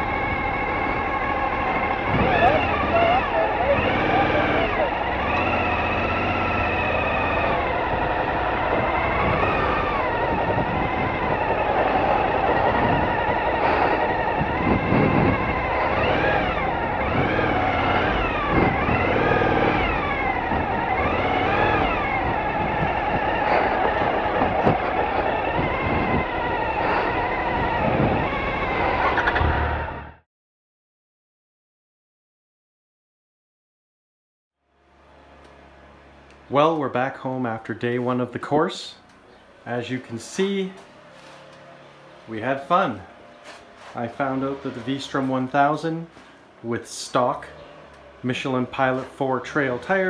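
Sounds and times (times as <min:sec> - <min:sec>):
motorcycle engine revving: 0:00.0 - 0:30.3, 0:34.6 - 0:50.0.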